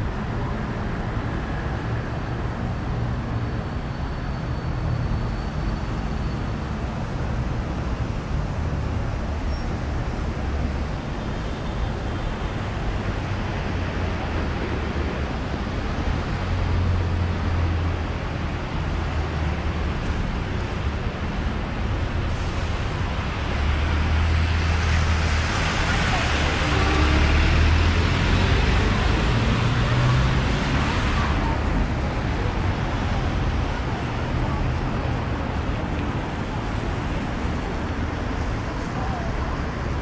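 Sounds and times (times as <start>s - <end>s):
bus and car engines passing: 0.0s - 40.0s.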